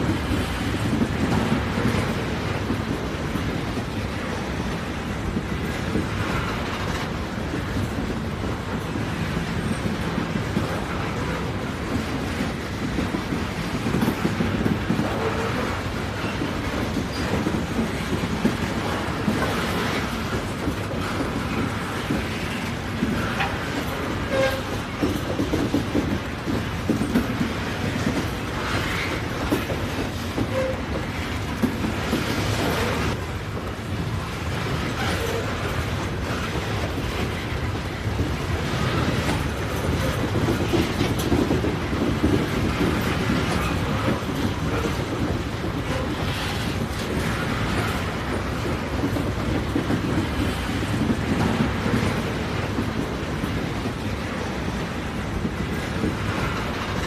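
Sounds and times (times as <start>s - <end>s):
rumble of rolling railcars: 0.0s - 57.0s.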